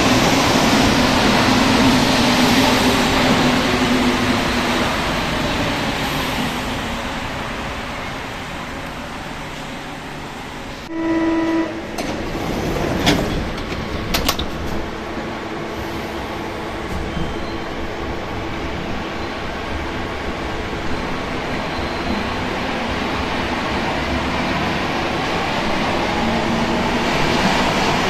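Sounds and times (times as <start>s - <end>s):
train doors shutting: 0.0s - 28.0s
train running noise: 0.0s - 28.0s.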